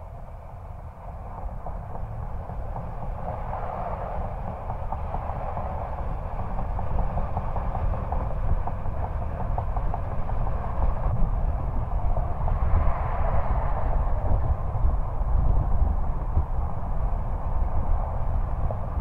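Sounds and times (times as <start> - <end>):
diesel engine exhaust rumble: 0.0 - 19.0
wind and road noise: 0.0 - 19.0.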